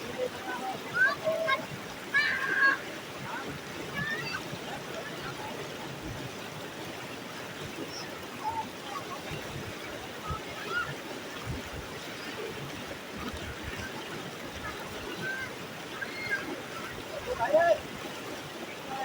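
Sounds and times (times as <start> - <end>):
stream and waterfall rushing: 0.0 - 19.0.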